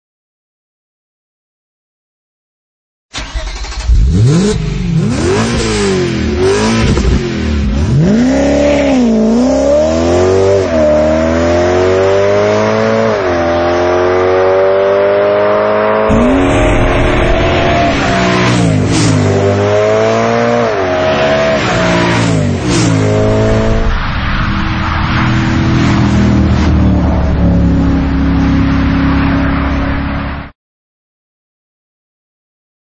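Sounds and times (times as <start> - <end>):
car engine revving: 3.2 - 30.4.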